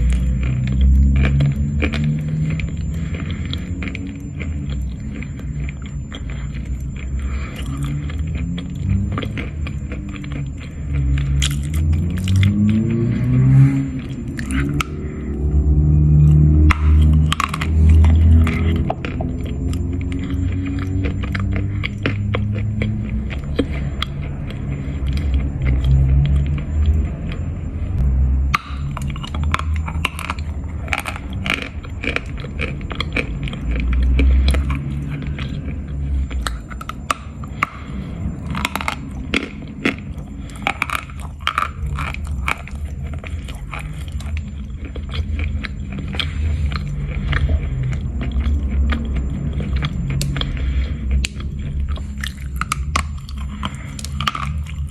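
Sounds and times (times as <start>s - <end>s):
chalk crunching while chewing: 0.0s - 27.6s, 28.5s - 54.9s.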